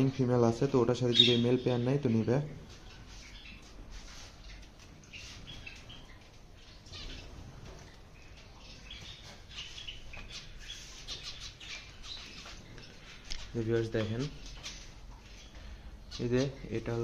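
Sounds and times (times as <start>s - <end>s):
finches chirping: 0.9s - 17.0s.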